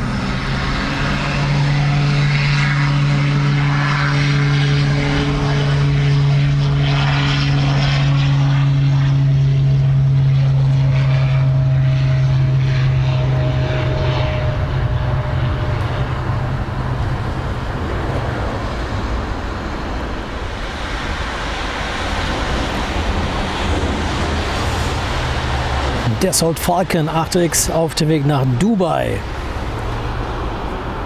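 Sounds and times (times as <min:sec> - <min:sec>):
propeller drone with whine: 0:00.0 - 0:31.0.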